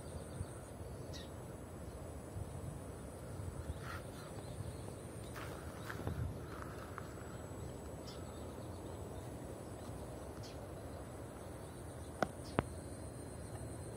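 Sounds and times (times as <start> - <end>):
faint bird chirps: 0.0 - 2.1, 3.2 - 13.8
outdoor background noise: 0.0 - 13.9.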